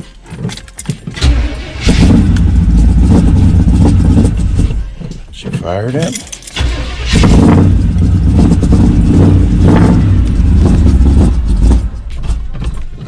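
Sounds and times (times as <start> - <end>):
engine rumbling loudly: 1.2 - 13.0.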